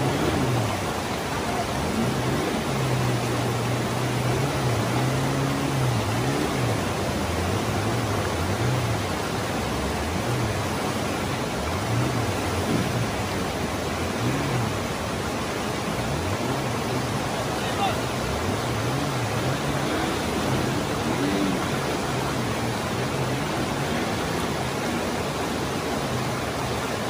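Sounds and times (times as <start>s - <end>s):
faint low wavering hum: 0.0s - 26.8s
river rapids rushing over rocks: 0.0s - 27.0s.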